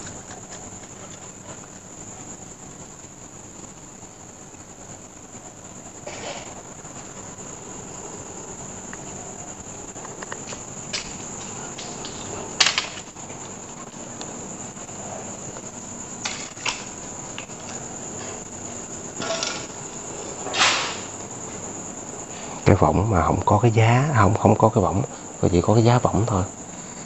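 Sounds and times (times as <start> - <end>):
crickets chirring: 0.0 - 27.0.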